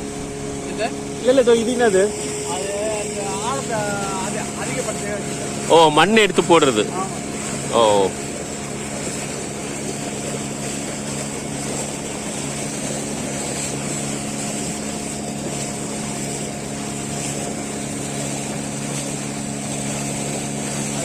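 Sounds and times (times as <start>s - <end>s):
motorboat engine humming: 0.0s - 21.0s
wind: 0.0s - 21.0s.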